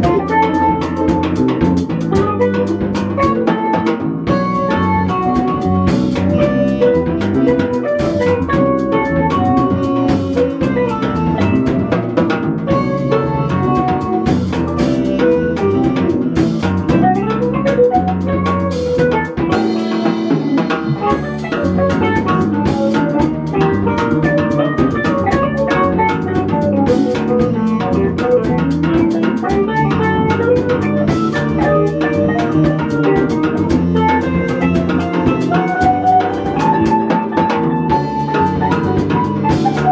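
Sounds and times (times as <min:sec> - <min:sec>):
bass guitar: 0:00.0 - 0:39.9
drum kit beat: 0:00.0 - 0:39.9
electric guitar: 0:00.0 - 0:39.9
saxophone: 0:00.0 - 0:39.9.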